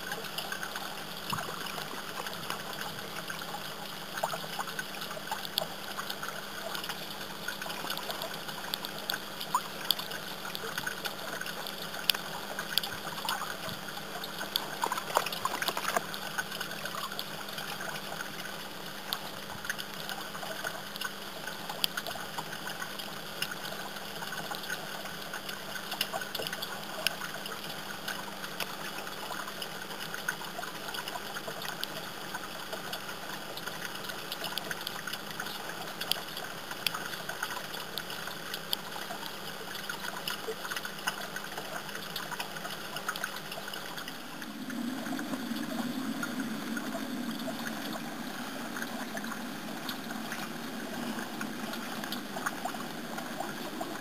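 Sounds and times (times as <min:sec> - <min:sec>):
fountain water trickling and splashing: 0:00.0 - 0:54.0.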